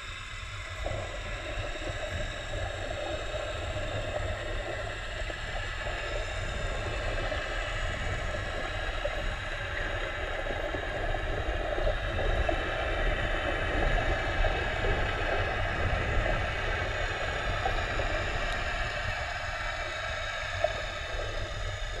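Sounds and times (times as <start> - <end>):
faint high hum: 0.0 - 22.0
muffled underwater rumble: 0.0 - 22.0
water crackling: 0.0 - 22.0.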